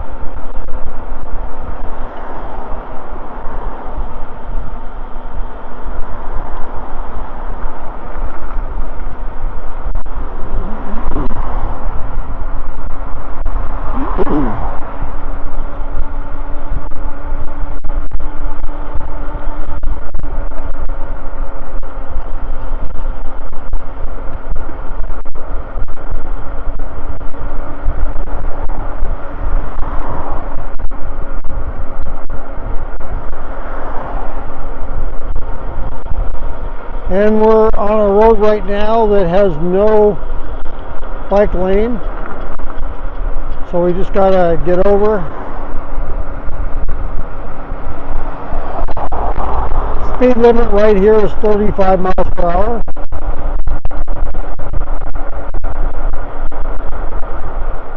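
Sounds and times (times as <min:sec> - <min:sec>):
electric motor whine: 0:00.0 - 0:57.9
road noise from moving bike: 0:00.0 - 0:57.9
vehicles passing: 0:00.0 - 0:57.9
wind buffeting microphone: 0:00.0 - 0:57.9.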